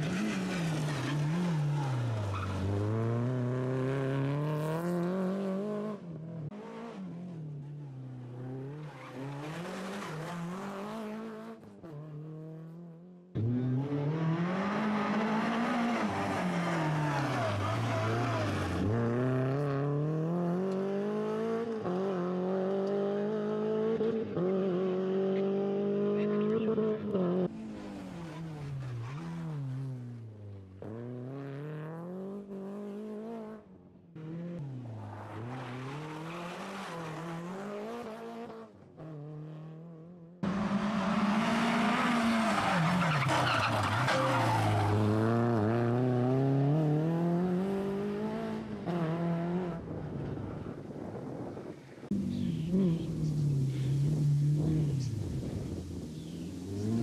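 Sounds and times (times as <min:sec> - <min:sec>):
rally car engine revving: 0:00.0 - 0:12.8, 0:13.4 - 0:33.6, 0:34.2 - 0:49.9, 0:52.1 - 0:57.0.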